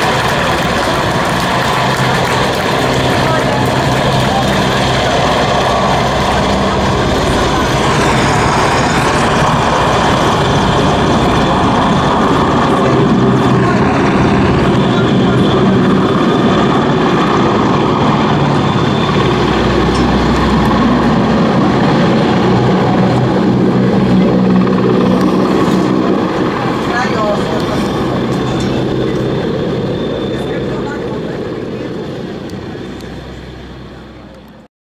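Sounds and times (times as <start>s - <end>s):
helicopter flying past: 0.0s - 34.7s
high turbine whine: 0.0s - 34.7s.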